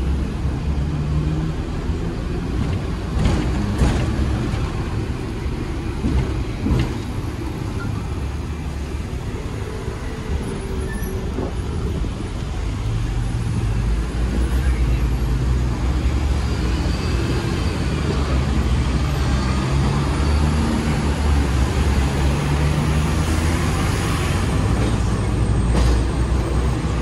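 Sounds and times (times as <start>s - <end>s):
road traffic: 0.0s - 27.0s
tram rumbling on rails: 0.0s - 27.0s.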